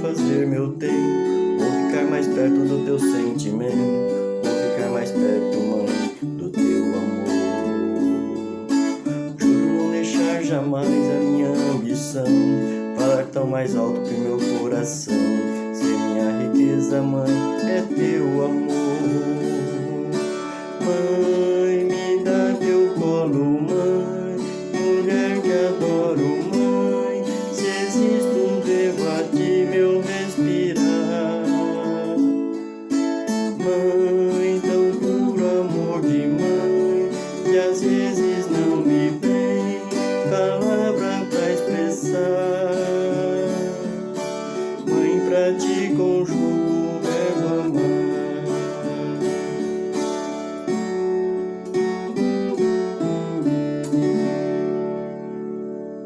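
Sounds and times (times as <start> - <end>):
plucked guitar melody: 0.0 - 56.0
strummed guitar accompaniment: 0.0 - 56.0.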